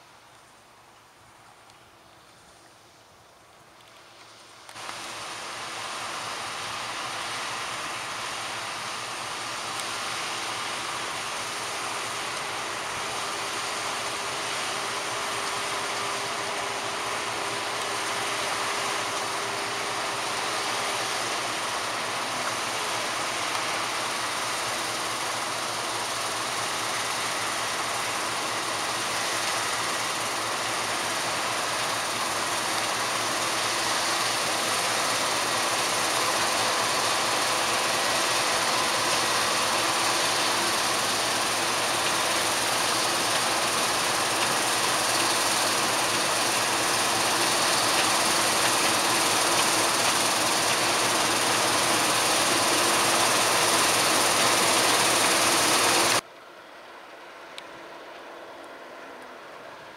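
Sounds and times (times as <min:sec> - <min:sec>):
combine harvester drone: 0:03.8 - 0:56.2.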